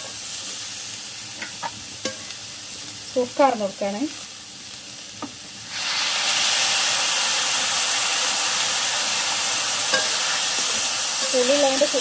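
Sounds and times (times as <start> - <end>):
hot oil sizzling hiss: 0.0 - 12.0.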